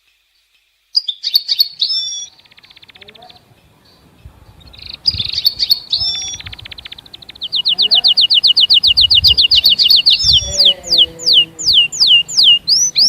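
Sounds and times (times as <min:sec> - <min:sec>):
goldfinch twittering with rattling trill: 0:01.0 - 0:13.0.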